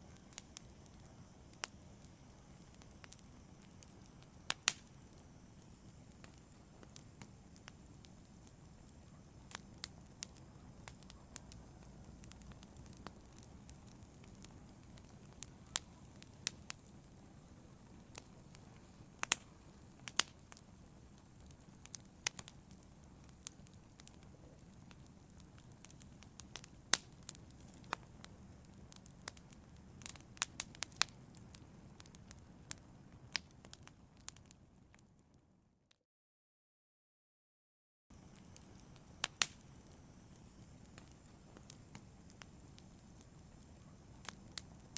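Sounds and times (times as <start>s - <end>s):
logs burning in fireplace: 0.0s - 35.4s, 38.1s - 44.9s.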